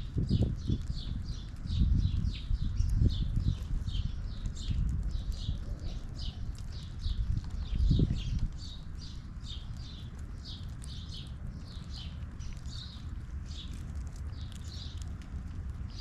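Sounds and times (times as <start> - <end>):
small bird chirping: 0.1 - 15.1.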